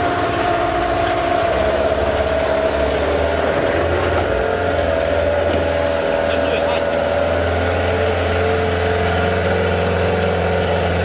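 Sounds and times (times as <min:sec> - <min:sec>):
outboard motor running: 0:00.0 - 0:11.0
propeller churning water: 0:00.0 - 0:11.0.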